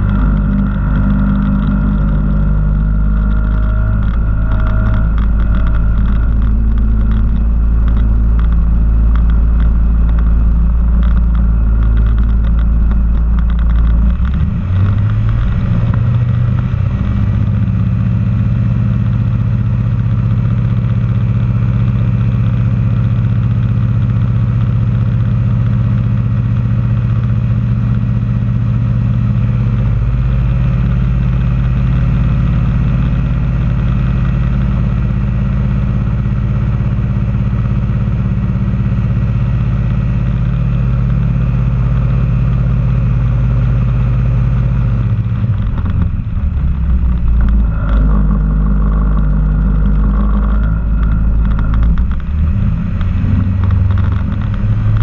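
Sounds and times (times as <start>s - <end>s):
ultralight aircraft engine idling: 0.0s - 55.0s.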